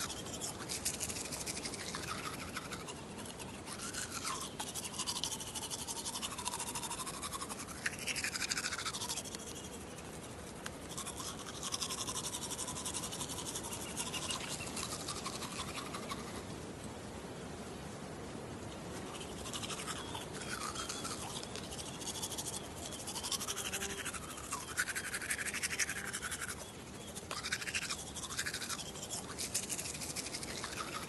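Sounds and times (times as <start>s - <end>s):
toothbrush scrubbing teeth: 0.0s - 16.4s, 19.0s - 31.0s.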